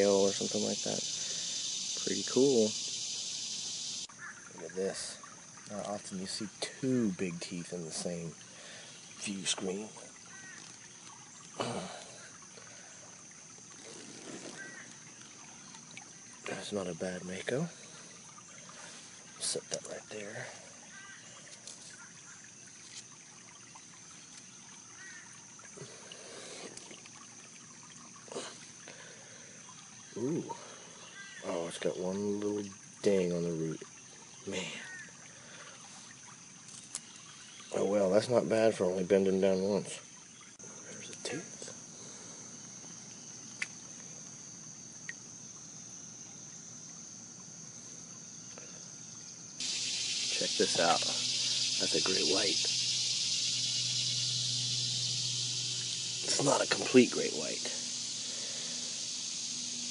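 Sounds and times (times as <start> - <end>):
insects droning: 0.0 - 59.9
water trickling in a ditch: 0.0 - 59.9.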